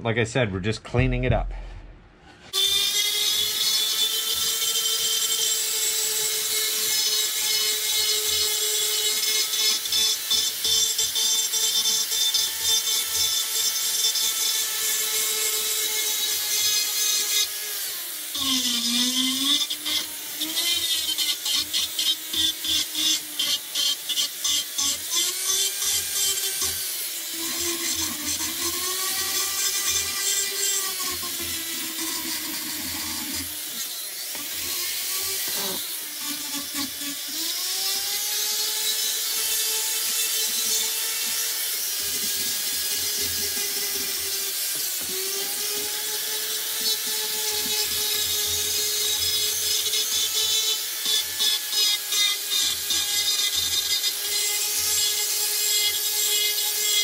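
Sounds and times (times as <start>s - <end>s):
rotary tool grinding wood: 2.5s - 57.0s.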